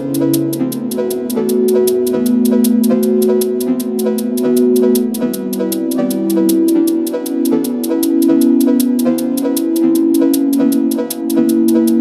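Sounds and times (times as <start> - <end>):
plucked notes over held tones: 0.0 - 12.0
steady light ticking: 0.0 - 12.0.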